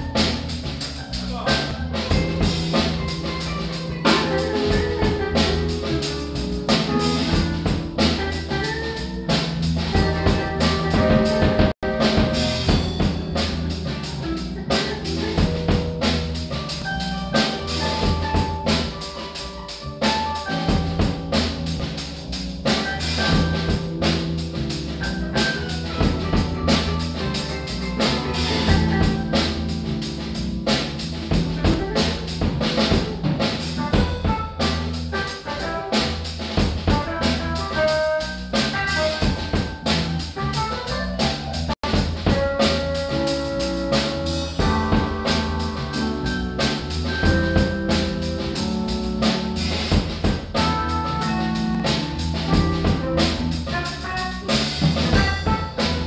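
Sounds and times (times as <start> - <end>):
electric guitars: 0.0 - 36.0, 38.5 - 56.0
drum kit beat: 0.0 - 56.0
keyboard: 0.0 - 56.0.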